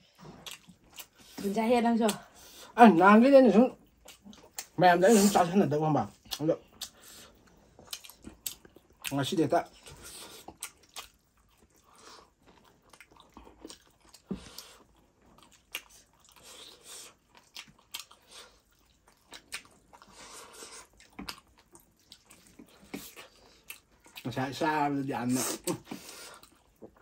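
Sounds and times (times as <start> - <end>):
people chewing food: 0.0 - 27.0.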